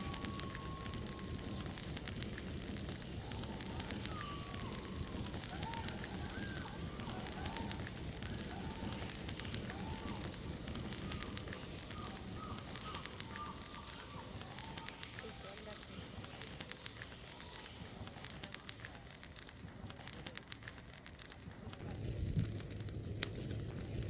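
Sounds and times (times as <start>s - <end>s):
bonfire crackling: 0.0s - 24.0s
faint distant calls: 0.0s - 24.0s.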